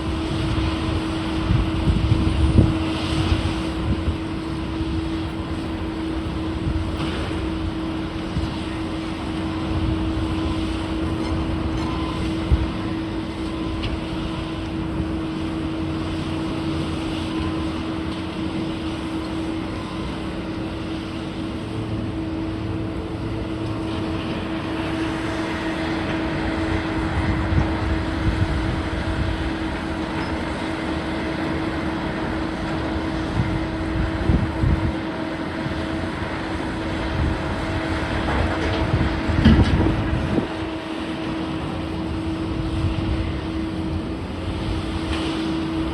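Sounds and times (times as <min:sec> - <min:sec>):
demolition machinery droning: 0:00.0 - 0:45.9.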